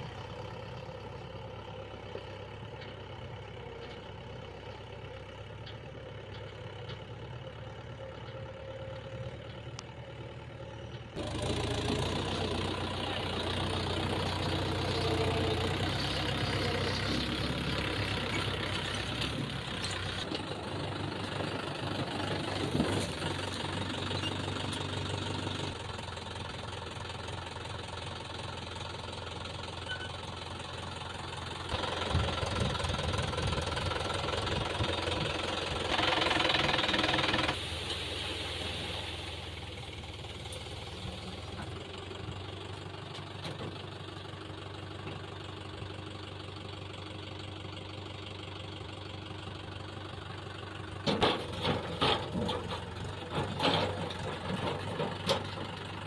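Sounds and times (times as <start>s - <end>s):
diesel engine of a digger: 0.0s - 56.0s.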